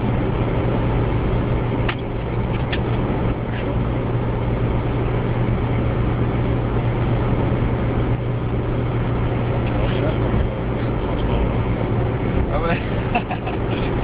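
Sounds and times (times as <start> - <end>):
car engine drone: 0.0 - 14.0
road and tyre noise: 0.0 - 14.0.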